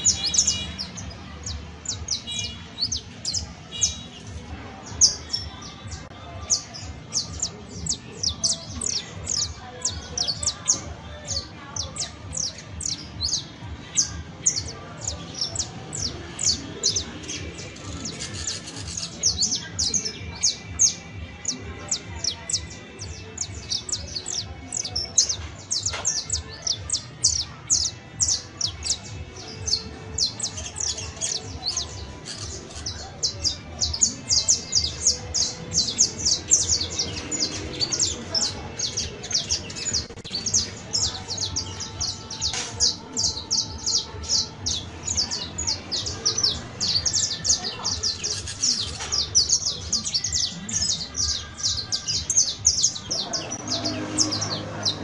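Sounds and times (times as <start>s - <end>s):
finch singing: 0.0s - 55.0s.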